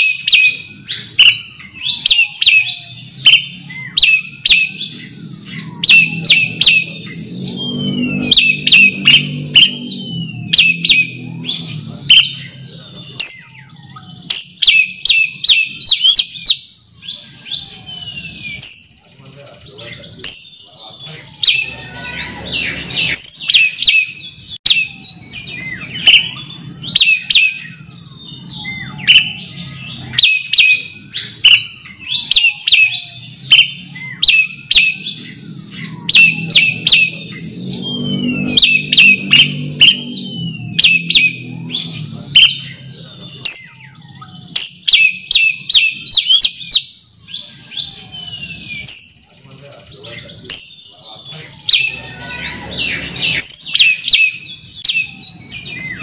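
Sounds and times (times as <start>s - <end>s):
bird sharp high call notes: 0.0s - 19.2s, 20.1s - 49.6s.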